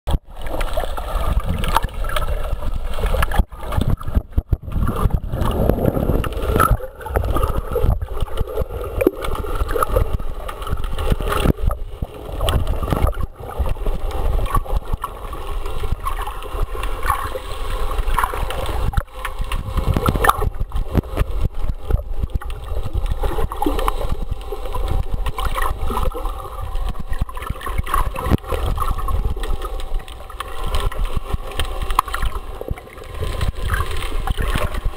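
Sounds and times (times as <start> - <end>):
underwater clicks: 0.1 - 34.9
underwater rumble of moving water: 0.1 - 34.9.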